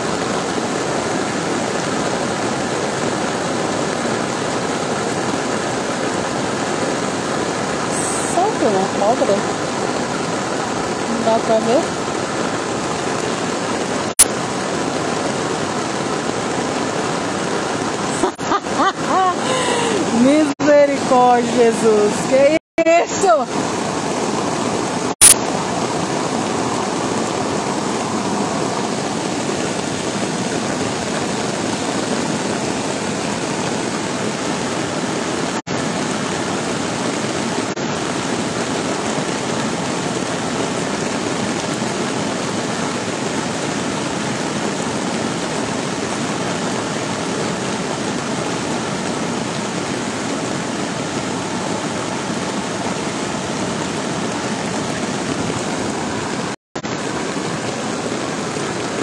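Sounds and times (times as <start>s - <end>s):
floodwater rushing: 0.0s - 59.0s
rain falling: 0.0s - 59.0s.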